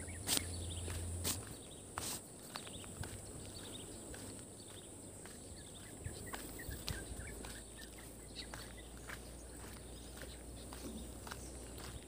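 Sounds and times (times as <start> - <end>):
bird chirps: 0.0 - 12.0
footsteps on paved road: 0.0 - 12.0.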